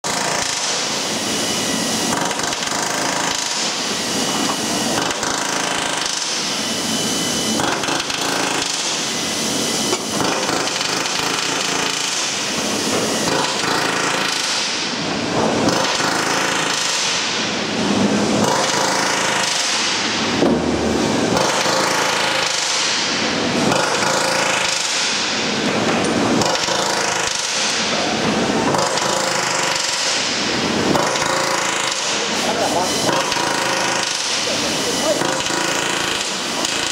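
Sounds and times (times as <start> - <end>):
rapid pneumatic hammering: 0.0 - 36.9
workshop machine noise: 0.0 - 36.9.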